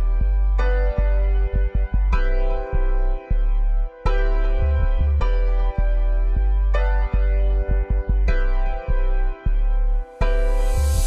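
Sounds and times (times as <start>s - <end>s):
steady bass: 0.0s - 11.0s.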